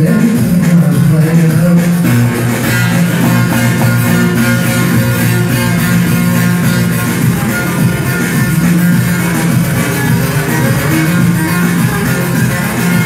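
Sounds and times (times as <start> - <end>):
plucked and strummed saz melody: 2.0 - 13.0.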